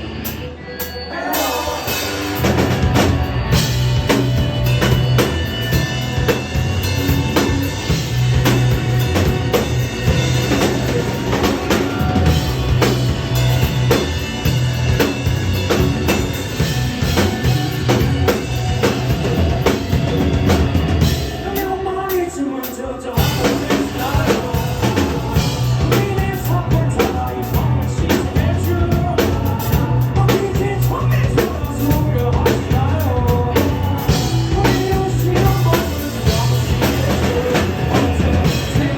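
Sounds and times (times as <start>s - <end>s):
electric guitar: 0.0s - 22.0s, 23.2s - 38.9s
bass guitar: 0.0s - 22.1s, 23.2s - 38.9s
drum kit: 0.0s - 38.9s
rock band playing: 0.0s - 38.9s.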